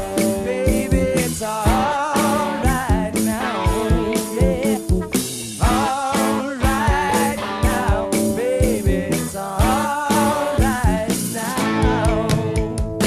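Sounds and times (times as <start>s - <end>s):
guitar: 0.0s - 13.0s
rock song: 0.0s - 13.0s
steady drum beat: 0.0s - 13.0s.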